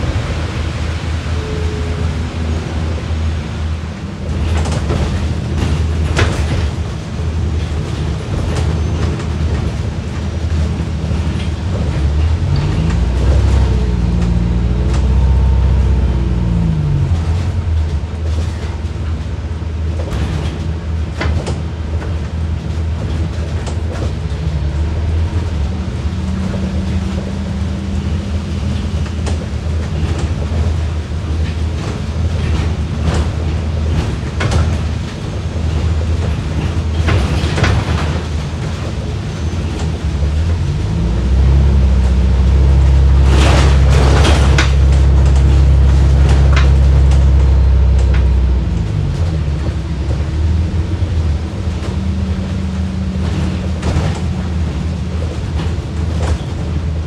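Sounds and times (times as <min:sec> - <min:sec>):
bus drivetrain drone: 0:00.0 - 0:57.0.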